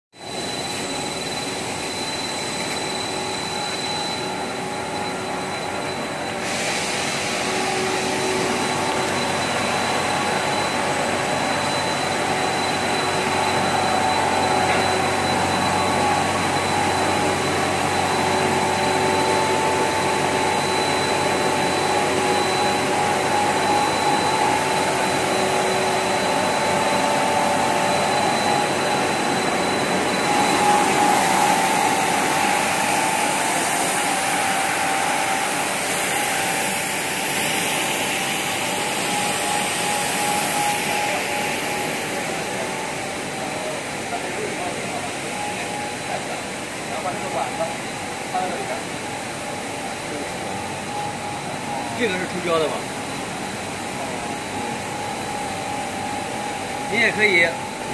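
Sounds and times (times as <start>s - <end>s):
rushing machine noise: 0.2s - 57.9s
whining motors and blowers: 0.2s - 57.9s.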